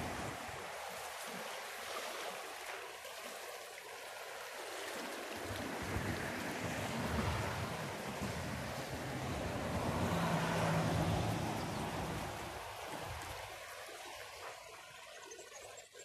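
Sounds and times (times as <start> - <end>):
floodwater rushing around bridge piers: 0.0 - 16.0.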